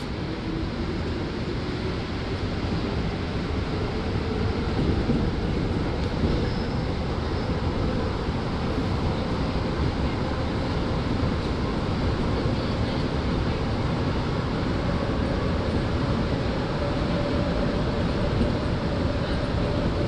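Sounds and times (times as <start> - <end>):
subway car rumbling in tunnel: 0.0 - 20.0.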